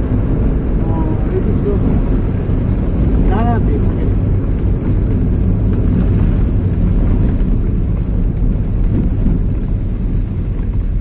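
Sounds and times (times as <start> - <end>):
vehicle engine and road noise: 0.0 - 11.0
wind buffeting microphone: 0.0 - 11.0.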